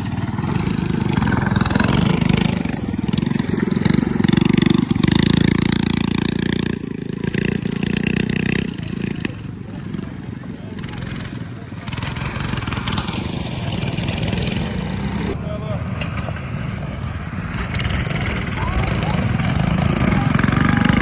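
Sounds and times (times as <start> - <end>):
mini bike engines revving: 0.0 - 21.0.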